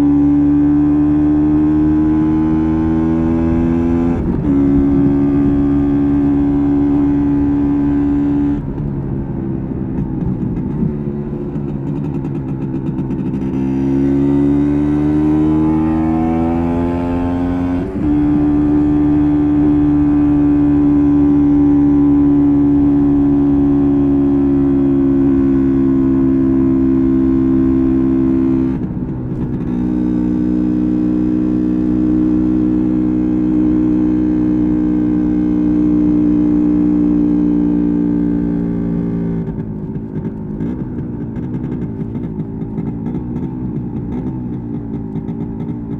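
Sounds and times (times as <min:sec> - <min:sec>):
two-stroke motorcycle engine running: 0:00.0 - 0:45.9.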